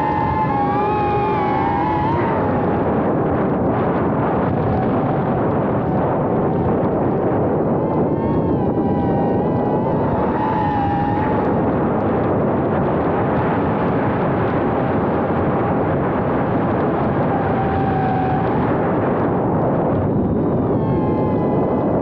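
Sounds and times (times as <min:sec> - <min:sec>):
drone motors buzzing: 0:00.0 - 0:13.3, 0:15.4 - 0:22.0
wind and vibration noise: 0:00.0 - 0:22.0.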